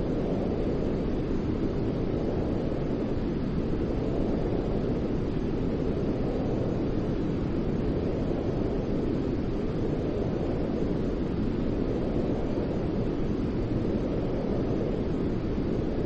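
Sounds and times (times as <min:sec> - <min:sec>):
deep rumbling white noise: 0:00.0 - 0:16.0.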